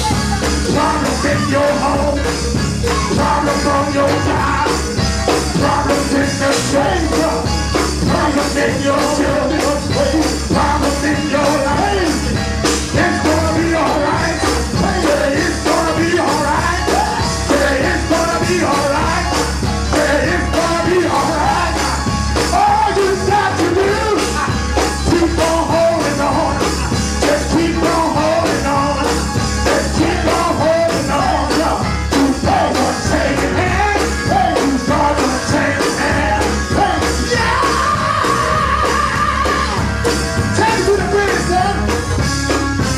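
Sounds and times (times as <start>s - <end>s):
gospel band with singing: 0.0s - 42.9s.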